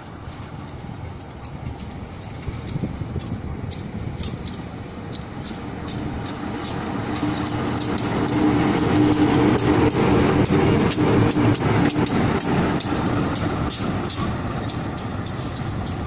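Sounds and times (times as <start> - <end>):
diesel locomotive engine passing: 0.0 - 16.0.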